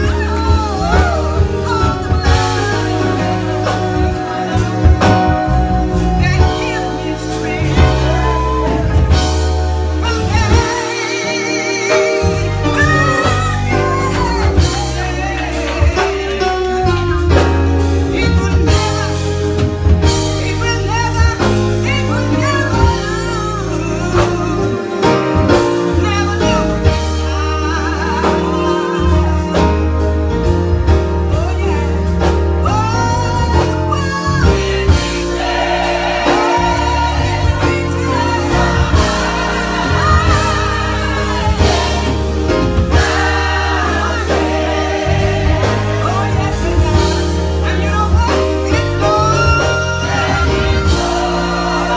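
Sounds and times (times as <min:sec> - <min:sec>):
gospel singing with band: 0:00.0 - 0:51.9.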